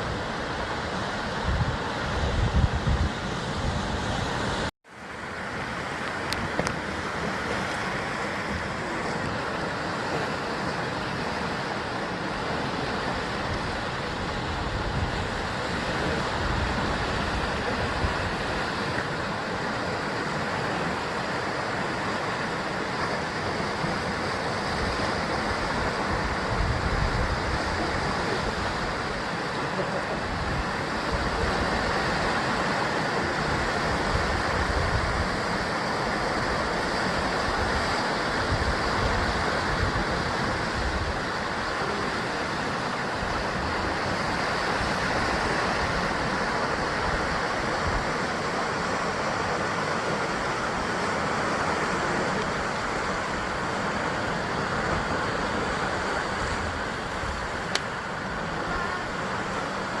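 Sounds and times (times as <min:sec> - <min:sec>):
sea waves breaking on cliffs: 0:00.0 - 1:00.0.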